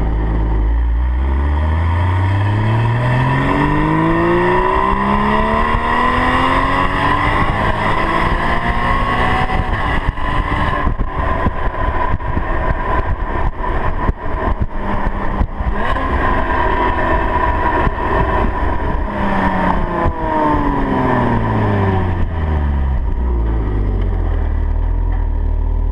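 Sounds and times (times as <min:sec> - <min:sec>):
rough rushing noise: 0:00.0 - 0:25.2
car engine accelerating: 0:00.0 - 0:25.9.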